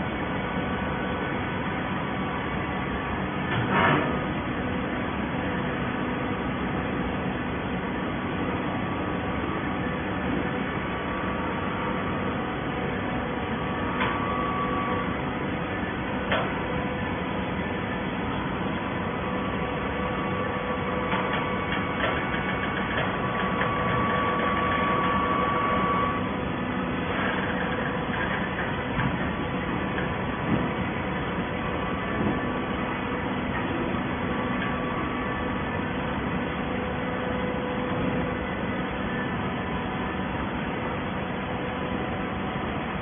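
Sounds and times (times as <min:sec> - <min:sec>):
baler machine hum with whine: 0:00.0 - 0:43.0.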